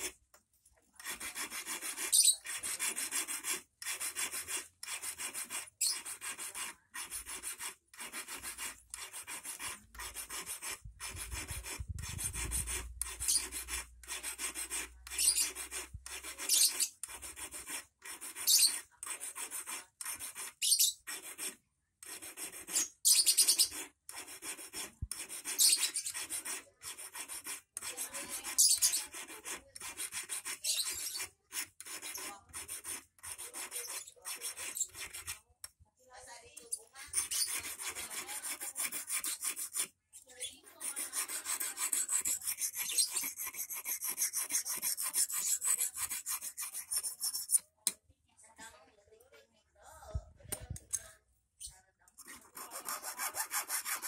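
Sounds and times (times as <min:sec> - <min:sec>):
hand file rasping on wire: 0:00.9 - 0:35.8, 0:36.6 - 0:48.0, 0:52.2 - 0:54.0.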